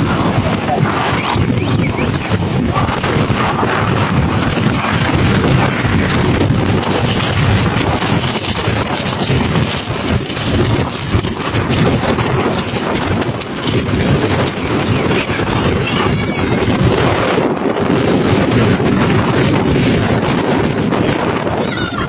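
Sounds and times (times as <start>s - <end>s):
deep rumble: 0.0s - 21.1s
jet blast wind noise: 0.0s - 22.0s.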